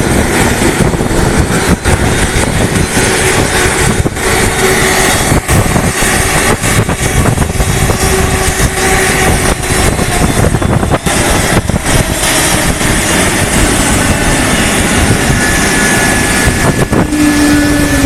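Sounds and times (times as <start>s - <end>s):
heavy rushing noise: 0.0s - 18.0s
propeller aircraft engine: 0.0s - 18.0s.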